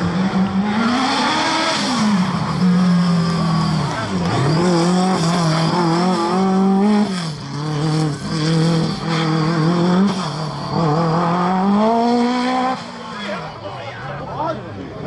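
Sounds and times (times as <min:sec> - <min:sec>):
rally car engine revving: 0:00.0 - 0:13.6.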